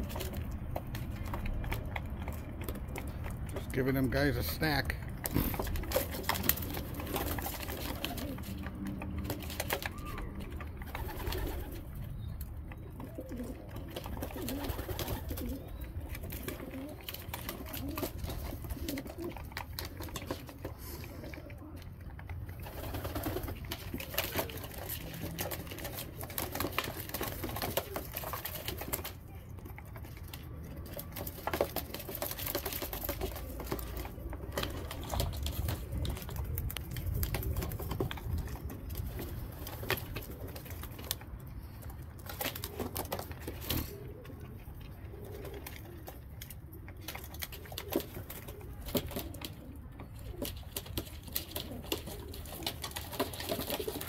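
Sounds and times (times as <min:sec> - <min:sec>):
beaks pecking plastic tub: 0:00.0 - 0:54.0
pigeons cooing: 0:00.0 - 0:54.0.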